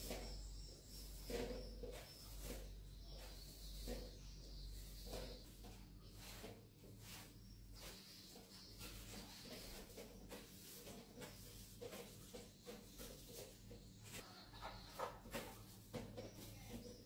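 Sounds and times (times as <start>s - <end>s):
broom sweeping tiled floor: 0.0s - 17.0s.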